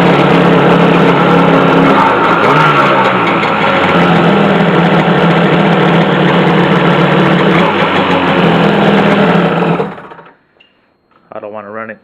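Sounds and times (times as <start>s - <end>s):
jet ski engine idling: 0.0s - 10.3s.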